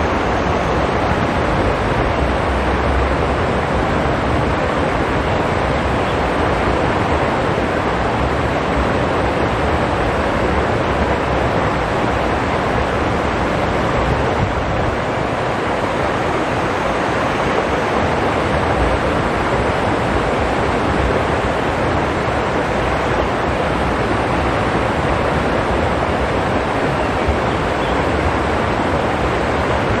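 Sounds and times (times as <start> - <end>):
stream rushing over stones: 0.0 - 30.0.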